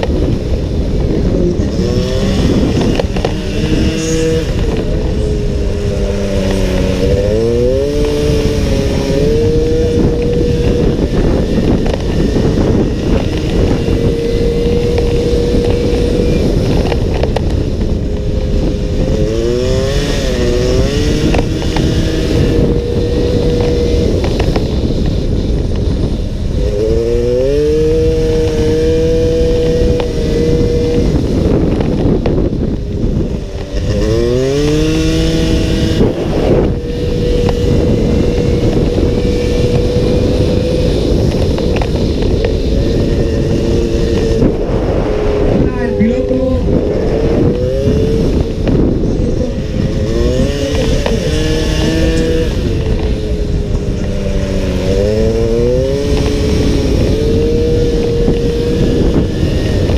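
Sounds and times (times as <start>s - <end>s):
motorcycle engine at full throttle: 0.0s - 59.9s
wind buffeting microphone: 0.0s - 59.9s.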